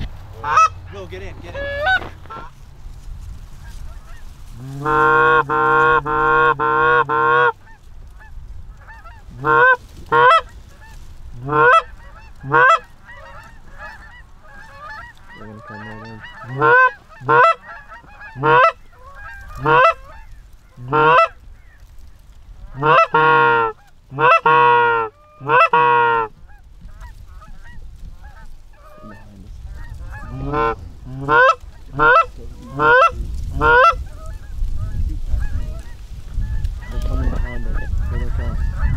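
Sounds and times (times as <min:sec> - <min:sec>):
distant flock honking: 0:00.0 - 0:38.9
geese honking: 0:00.0 - 0:38.9.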